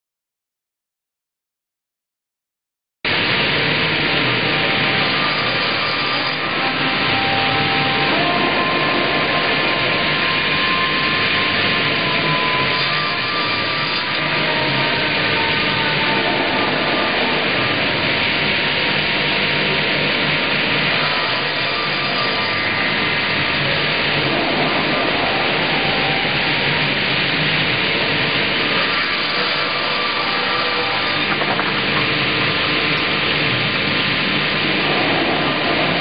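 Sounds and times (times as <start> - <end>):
circular sawmill sawing log: 3.2 - 36.0.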